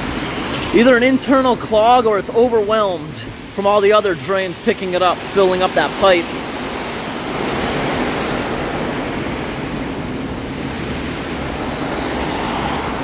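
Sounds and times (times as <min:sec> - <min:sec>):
heavy rain pouring: 0:00.0 - 0:13.0
water rushing into storm drain: 0:00.0 - 0:13.0.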